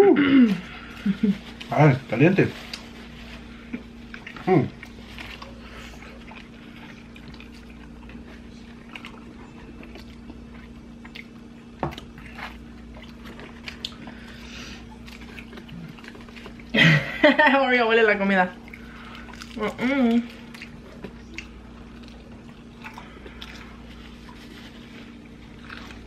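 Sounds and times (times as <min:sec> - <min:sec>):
people chewing and eating: 0:00.0 - 0:26.0
steady low hum: 0:00.0 - 0:26.0.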